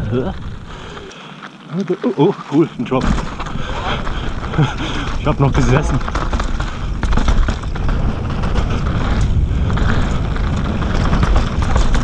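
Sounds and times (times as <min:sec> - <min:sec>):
wind rushing over microphone: 0:00.0 - 0:01.1, 0:03.0 - 0:12.0
bike rattling: 0:00.0 - 0:12.0
tyres on gravel: 0:00.0 - 0:12.0.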